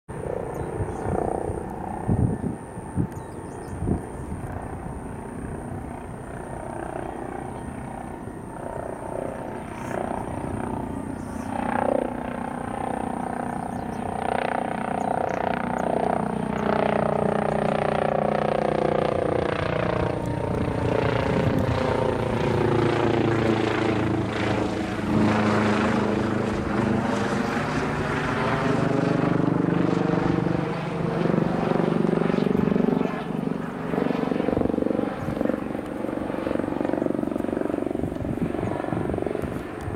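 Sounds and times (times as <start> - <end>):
helicopter flying overhead: 0.1 - 39.9.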